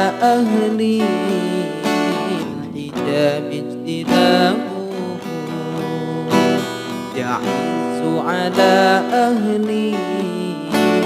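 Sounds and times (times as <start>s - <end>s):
person singing devotional song: 0.0s - 11.0s
plucked strings playing: 0.0s - 11.0s.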